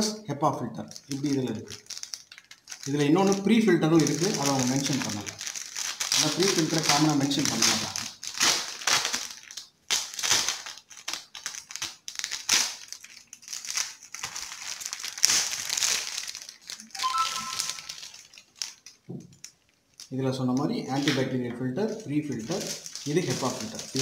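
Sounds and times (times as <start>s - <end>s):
plastic wrapping crinkling: 0.8s - 24.0s.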